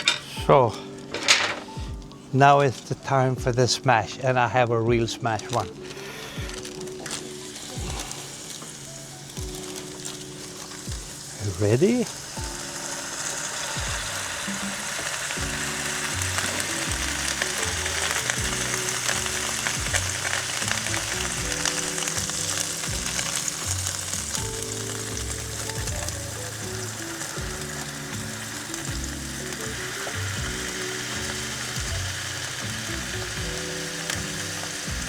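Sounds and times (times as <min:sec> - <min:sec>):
background music low notes: 0:00.0 - 0:35.0
burger patties sizzling on grill: 0:00.0 - 0:35.0.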